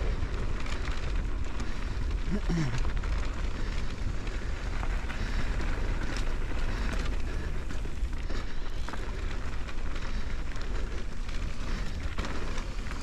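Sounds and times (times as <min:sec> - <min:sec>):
bike rattles and ticks: 0:00.0 - 0:13.0
bike tyres rolling on dirt: 0:00.0 - 0:13.0.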